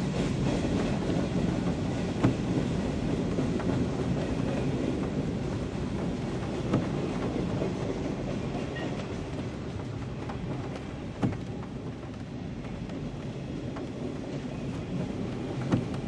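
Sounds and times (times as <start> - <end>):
freight train cars rumbling past: 0.0 - 16.0
wheels clacking over rail joints: 0.0 - 16.0.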